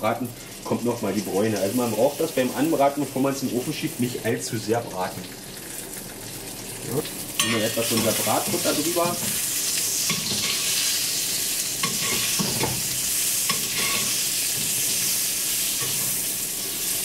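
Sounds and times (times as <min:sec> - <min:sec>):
butter sizzling in a pan: 0:00.0 - 0:17.0.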